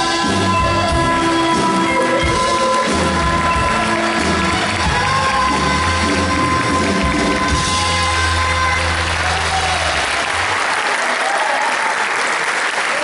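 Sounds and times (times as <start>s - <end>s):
live band playing: 0.0s - 10.9s
audience applause: 0.0s - 13.0s.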